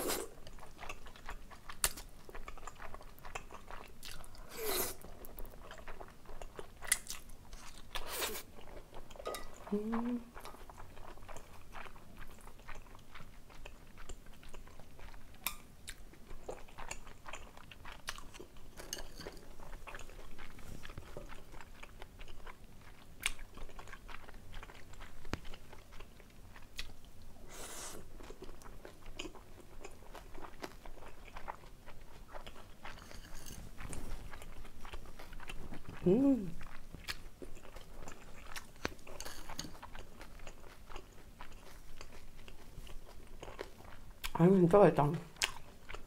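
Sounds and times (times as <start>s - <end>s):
close-miked chewing noodles: 0.0s - 46.0s.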